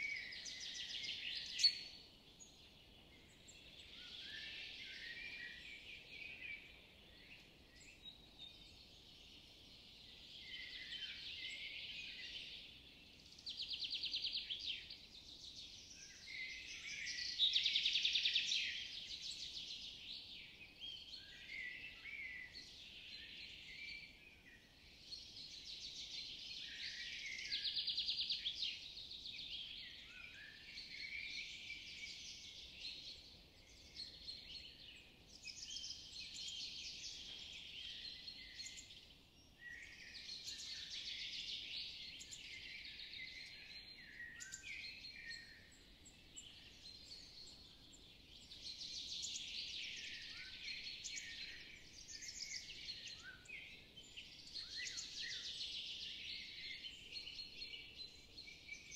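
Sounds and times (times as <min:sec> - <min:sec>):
woodland birds singing: 0:00.0 - 0:58.9.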